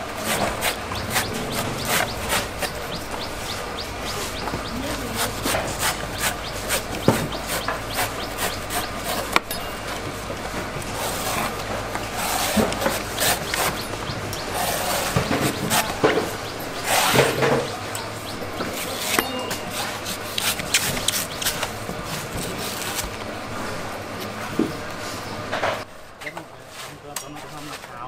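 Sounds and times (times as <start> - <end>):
blade scraping coconut husk: 0.0 - 9.6, 10.2 - 23.8
sharp knocks: 0.0 - 22.6.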